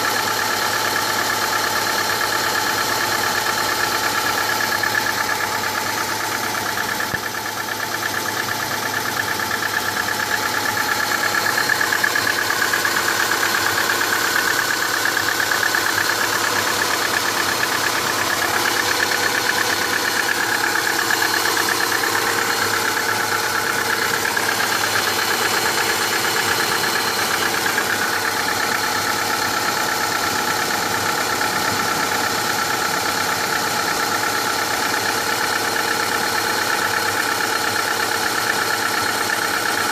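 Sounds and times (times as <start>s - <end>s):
car engine idling: 0.0s - 39.9s
engine knock: 0.0s - 39.9s.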